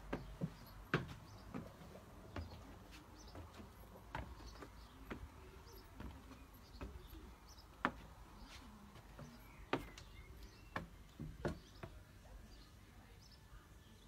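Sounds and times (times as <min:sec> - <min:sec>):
footsteps on wooden steps: 0:00.0 - 0:12.5.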